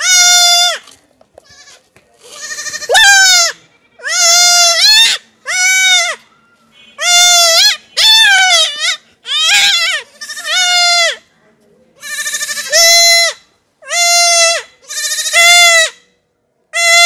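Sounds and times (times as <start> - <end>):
goat kid bleating: 0.0 - 6.3, 6.9 - 11.3, 12.0 - 16.0, 16.8 - 17.0.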